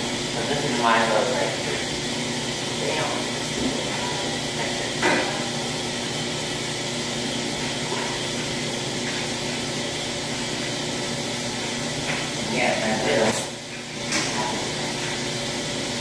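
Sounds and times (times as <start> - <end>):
laundry machines whirring: 0.0 - 16.0.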